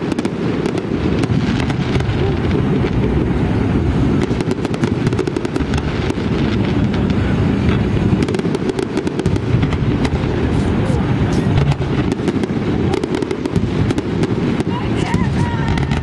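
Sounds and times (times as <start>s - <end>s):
fireworks crackles and pops: 0.0s - 16.0s
fireworks rumbling bursts: 0.0s - 16.0s.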